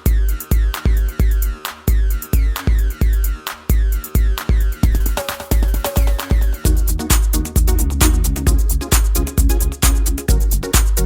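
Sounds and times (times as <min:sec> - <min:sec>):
electronic dance music: 0:00.0 - 0:11.0
heavy kick drum beat: 0:00.0 - 0:11.0.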